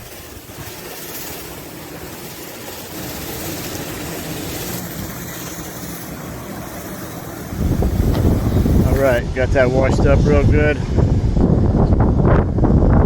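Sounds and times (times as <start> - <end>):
water spray washing a roof: 0.0 - 11.3
wind buffeting microphone: 0.0 - 13.0.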